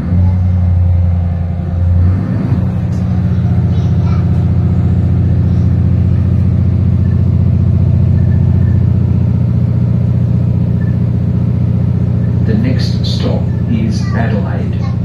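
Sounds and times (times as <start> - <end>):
diesel engine humming: 0.0 - 15.0
train rumbling: 0.0 - 15.0.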